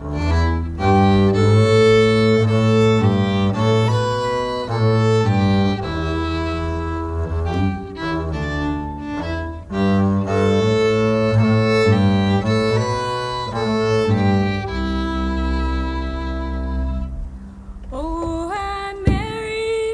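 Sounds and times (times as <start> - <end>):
upright bass line: 0.0 - 18.3
fiddle bowing sustained notes: 0.0 - 19.0.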